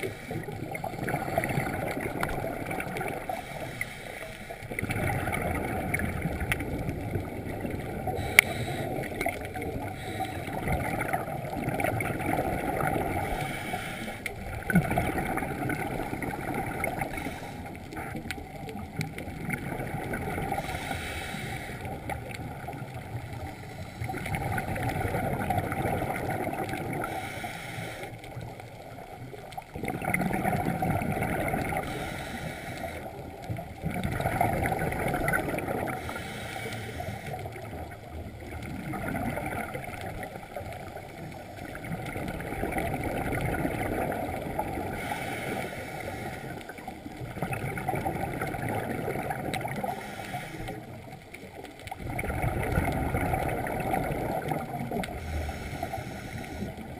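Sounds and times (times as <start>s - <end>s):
low water rumble: 0.0s - 56.9s
underwater bubbles gurgling: 0.0s - 56.9s.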